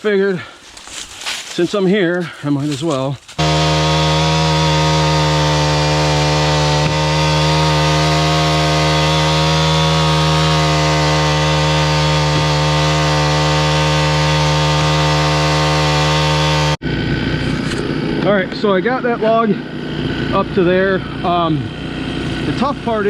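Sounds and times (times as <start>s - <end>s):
winch dragging heavy log: 2.7s - 23.0s
small gas engine running: 3.4s - 23.0s.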